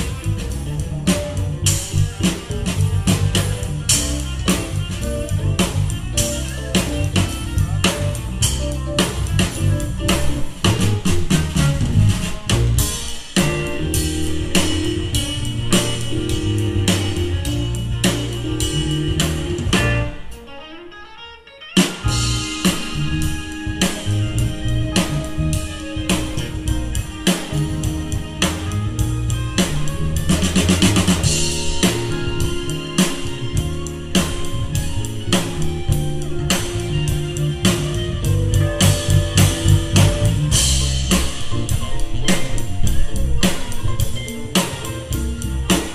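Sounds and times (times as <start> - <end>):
live funk band playing: 0.0 - 45.9.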